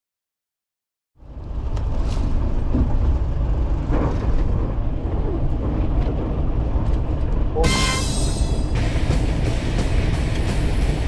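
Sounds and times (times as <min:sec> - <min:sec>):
boat engine rumbling: 0:01.2 - 0:11.0.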